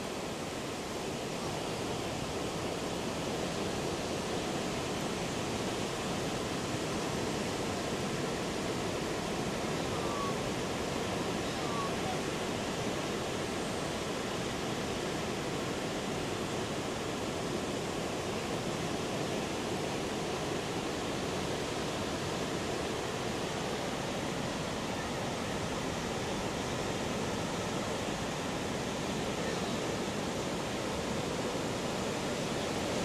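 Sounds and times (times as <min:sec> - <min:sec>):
heavy ocean surf: 0:00.0 - 0:33.0.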